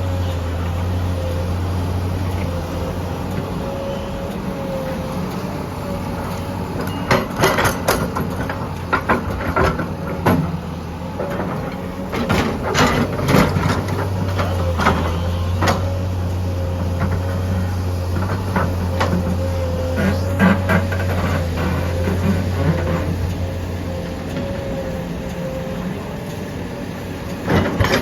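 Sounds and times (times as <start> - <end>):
steady machine whine: 0.0 - 8.8, 10.7 - 28.0
diesel machinery engine running: 0.0 - 28.0.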